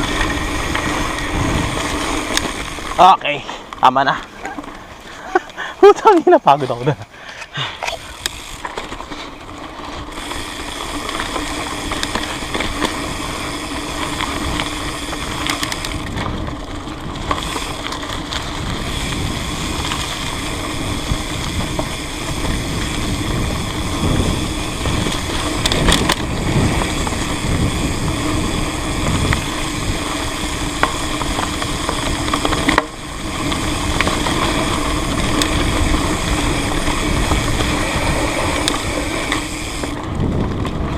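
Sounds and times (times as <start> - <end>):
bicycle hub buzzing: 0.0 - 40.9
bike tyre noise and rattle: 0.0 - 40.9.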